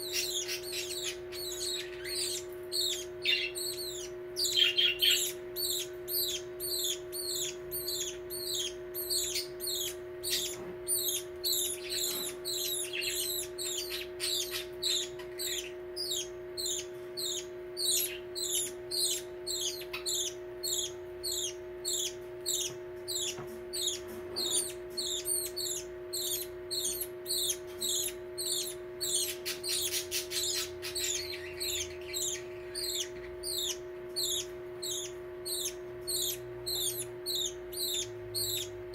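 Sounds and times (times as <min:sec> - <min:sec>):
budgerigar chicks begging calls: 0:00.0 - 0:38.9
steady low hum: 0:00.0 - 0:38.9.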